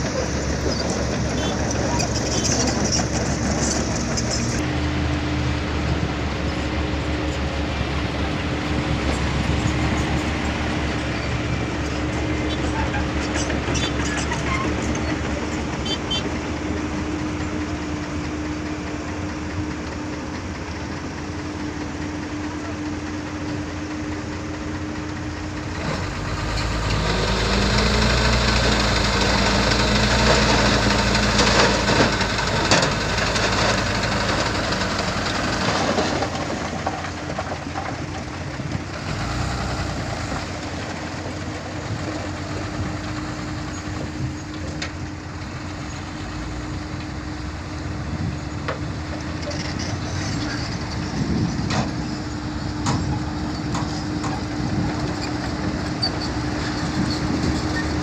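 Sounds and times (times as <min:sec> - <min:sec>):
diesel truck engine idling and revving: 0:00.0 - 0:58.0.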